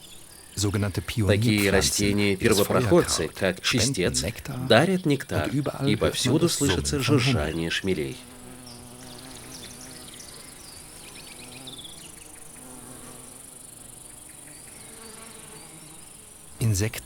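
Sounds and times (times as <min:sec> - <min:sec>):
bumblebees buzzing: 0:00.0 - 0:16.8.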